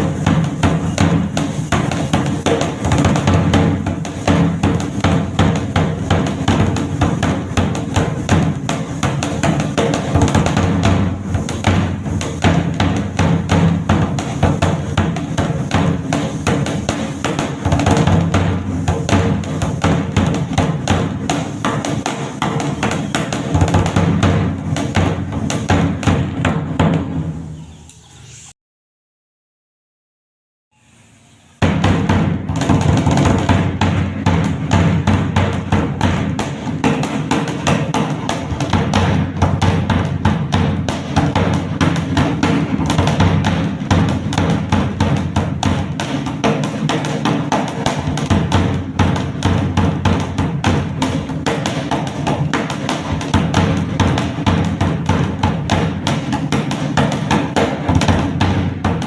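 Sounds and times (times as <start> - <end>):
barrel drum beaten with sticks: 0.0 - 27.4, 31.6 - 59.0.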